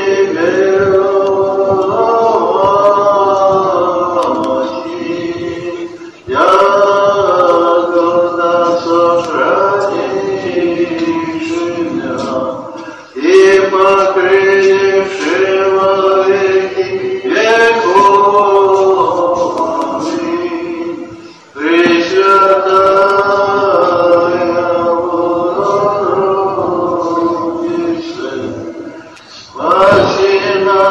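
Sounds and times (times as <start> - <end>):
man singing church chant: 0.0 - 30.9.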